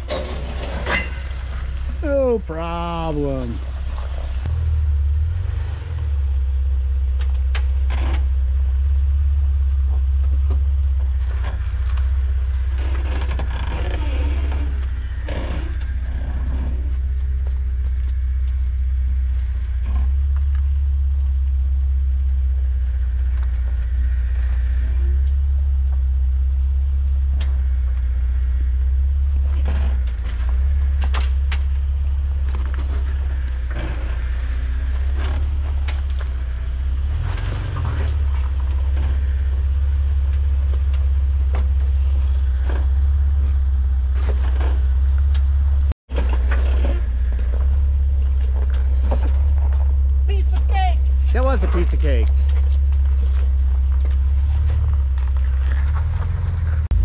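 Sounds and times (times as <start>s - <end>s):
engine low rumble: 0.0s - 57.0s.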